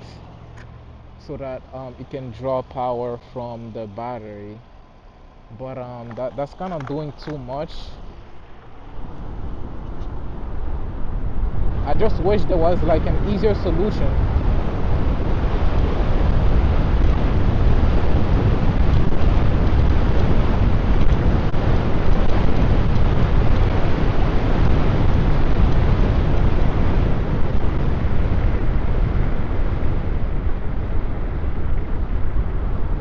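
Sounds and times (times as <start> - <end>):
tyre and road noise: 0.0 - 33.0
wind buffeting microphone: 5.7 - 33.0.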